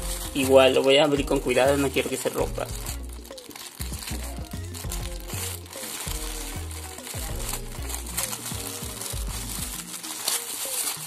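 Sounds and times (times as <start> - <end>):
background music: 0.0 - 11.0
tape peeling: 0.0 - 11.0
tissue paper crinkling: 0.0 - 11.0.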